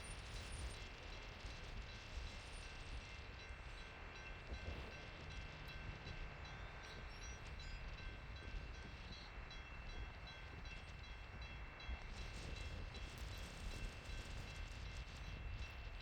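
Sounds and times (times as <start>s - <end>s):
distant freight train: 0.0s - 16.0s.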